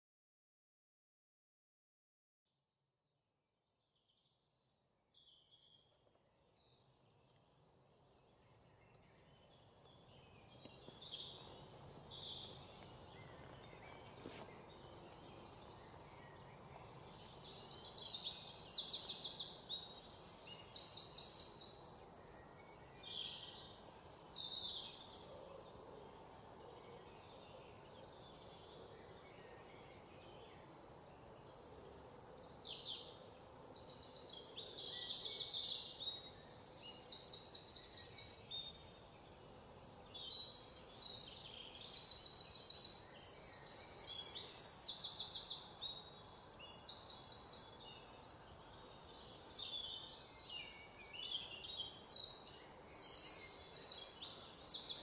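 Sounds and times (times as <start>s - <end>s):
outdoor background hiss: 4.2s - 55.0s.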